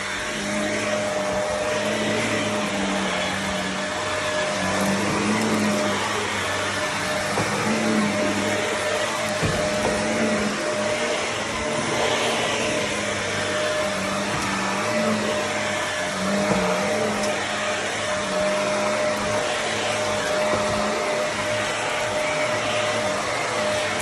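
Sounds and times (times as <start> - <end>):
vacuum cleaner running on carpet: 0.0 - 24.0.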